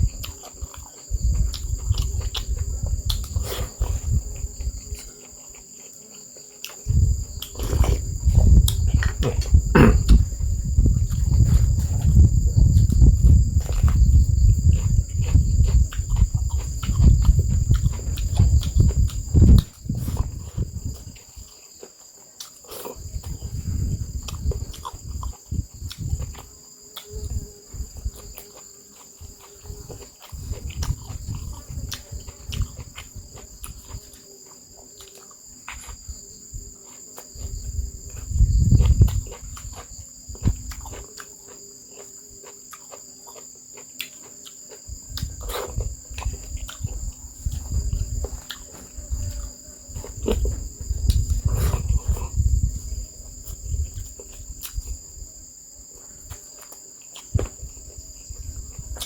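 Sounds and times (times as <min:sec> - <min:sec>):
insects shrilling: 0:00.0 - 0:59.0
person chewing: 0:00.1 - 0:23.4, 0:24.2 - 0:27.3, 0:28.0 - 0:36.1, 0:36.8 - 0:52.4, 0:53.4 - 0:55.1, 0:55.9 - 0:59.0.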